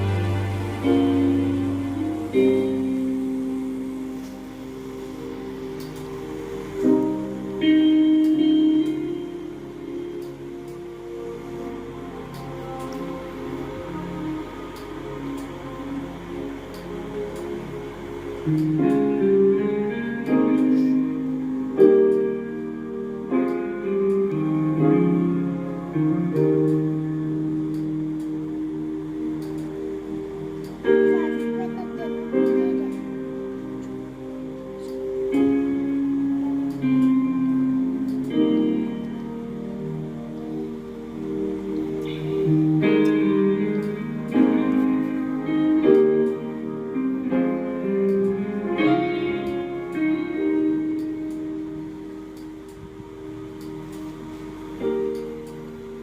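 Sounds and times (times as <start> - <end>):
slow piano chords: 0.0 - 56.0
slow plucked guitar music: 0.0 - 56.0.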